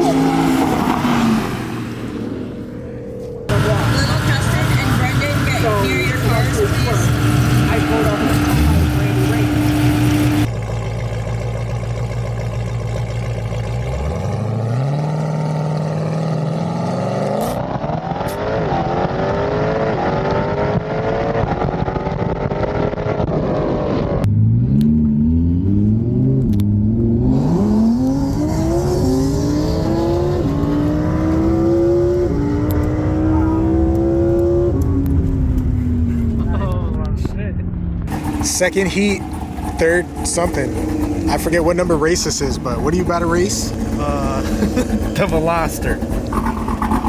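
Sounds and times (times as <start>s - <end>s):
car engine accelerating through gears: 0.0s - 47.0s.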